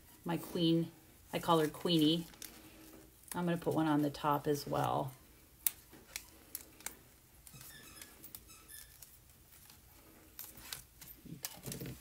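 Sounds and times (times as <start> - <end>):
soft paper rustling: 1.3 - 12.0.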